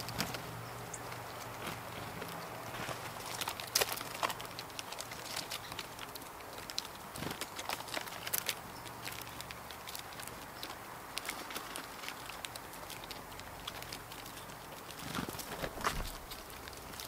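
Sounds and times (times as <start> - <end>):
birds tapping and pecking: 0.0 - 17.0
rustling in dry leaves: 0.0 - 17.0.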